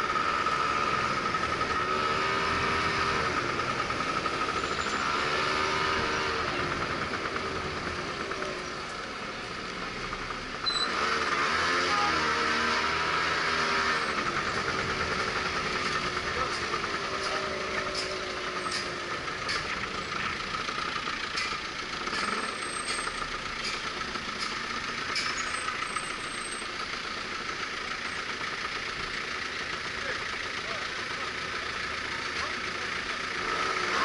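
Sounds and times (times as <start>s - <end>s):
car and truck engines idling: 0.0s - 34.0s
scooter engine running: 0.0s - 34.0s.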